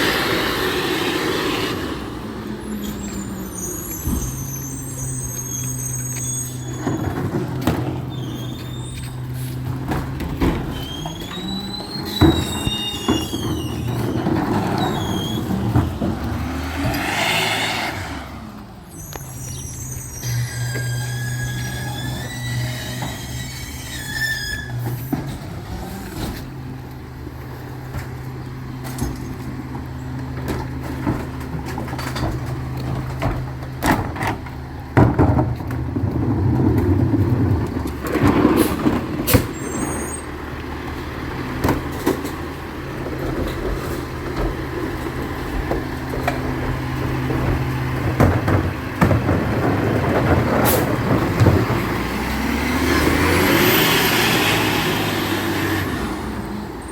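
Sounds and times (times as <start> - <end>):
truck engine running: 0.0 - 24.0, 24.8 - 56.9.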